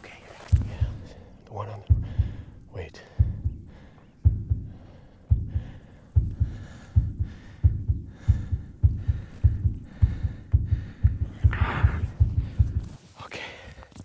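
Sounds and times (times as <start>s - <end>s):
heartbeat thumps: 0.4s - 13.0s.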